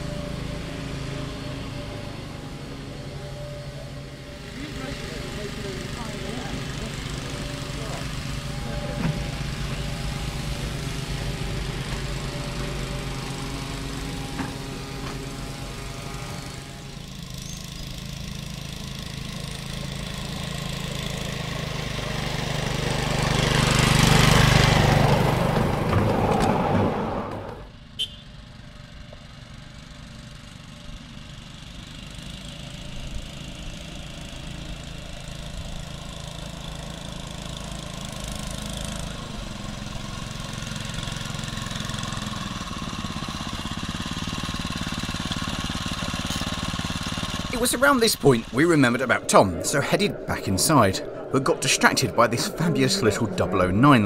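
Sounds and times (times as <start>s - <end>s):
miniature train running on track: 0.0s - 50.8s.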